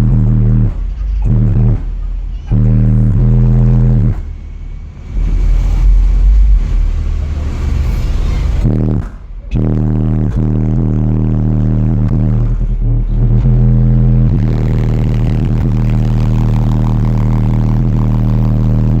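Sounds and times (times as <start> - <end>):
loud distorted subwoofer bass: 0.0 - 19.0.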